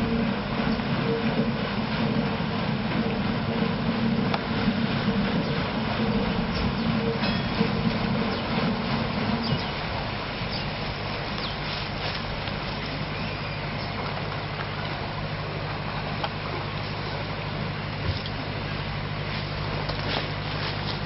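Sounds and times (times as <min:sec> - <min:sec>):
paddle steamer engine drone: 0:00.0 - 0:21.0
water wash: 0:00.0 - 0:21.0.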